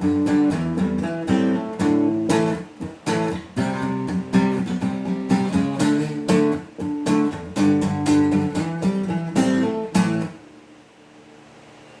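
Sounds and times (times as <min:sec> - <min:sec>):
acoustic guitar strummed chords: 0:00.0 - 0:10.5.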